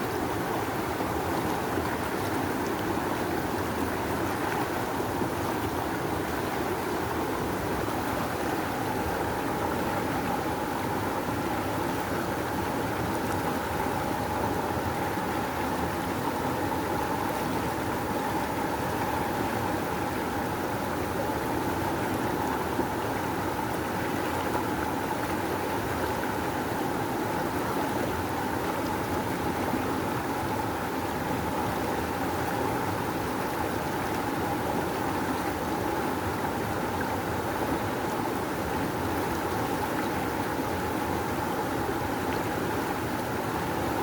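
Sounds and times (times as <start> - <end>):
rushing river water: 0.0 - 44.0.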